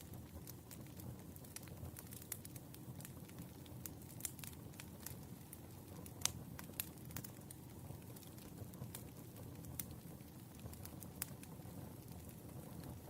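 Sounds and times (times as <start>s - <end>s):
fire popping: 0.0s - 13.0s
low fire rumble: 0.0s - 13.0s
wood fire crackling: 0.0s - 13.0s.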